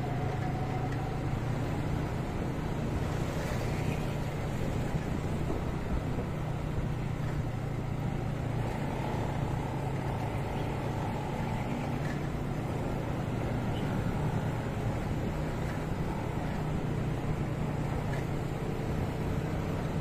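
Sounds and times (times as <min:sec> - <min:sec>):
other motorcycles in traffic: 0:00.0 - 0:20.0
tyre and wind noise: 0:00.3 - 0:20.0.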